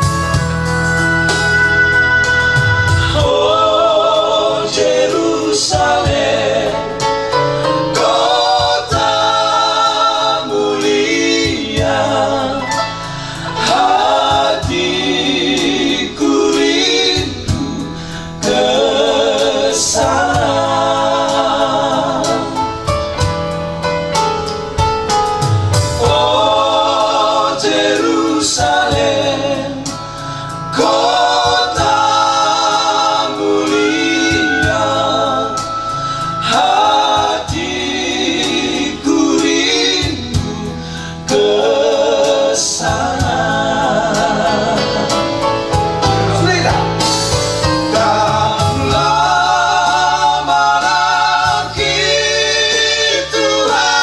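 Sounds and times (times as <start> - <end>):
electronic keyboard: 0.0 - 54.0
men singing with vibrato: 2.4 - 23.3, 25.8 - 54.0.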